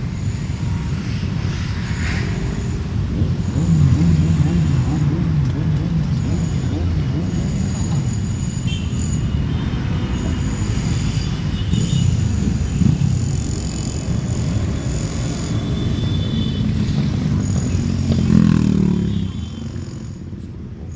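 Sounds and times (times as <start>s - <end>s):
motorcycles passing: 0.0s - 20.9s
motorcycle engine revving: 0.3s - 20.2s.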